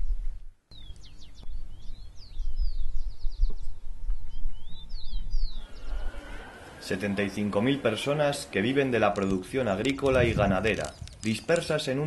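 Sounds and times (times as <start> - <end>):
small birds chirping: 0.7 - 12.0.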